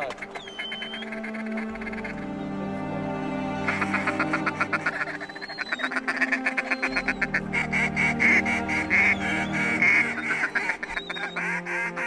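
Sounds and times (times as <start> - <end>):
duck call quacking notes: 0.0 - 2.4, 3.6 - 12.0.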